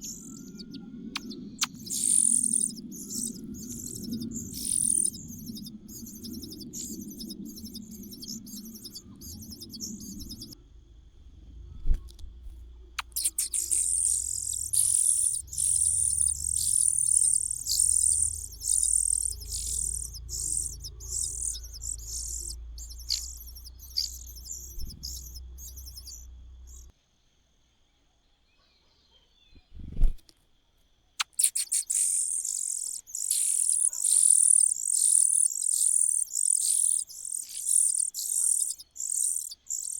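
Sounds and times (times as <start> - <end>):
nestling birds begging calls: 0.0 - 10.6, 13.0 - 26.9, 31.2 - 39.9.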